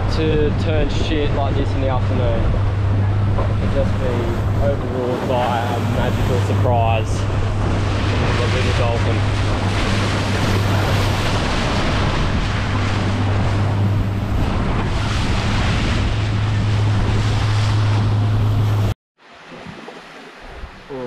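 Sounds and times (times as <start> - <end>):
wind noise on microphone: 0.0 - 19.0
boat motor humming: 0.0 - 21.0
water splashing against hull: 0.0 - 21.0.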